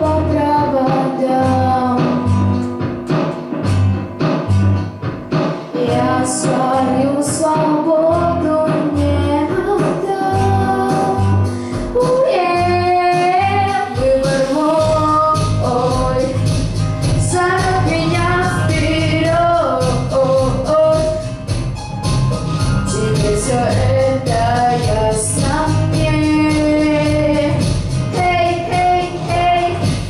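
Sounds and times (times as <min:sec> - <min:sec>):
girl singing into microphone: 0:00.0 - 0:02.6, 0:05.8 - 0:21.4, 0:22.9 - 0:30.0
backing track with bass: 0:00.0 - 0:30.0.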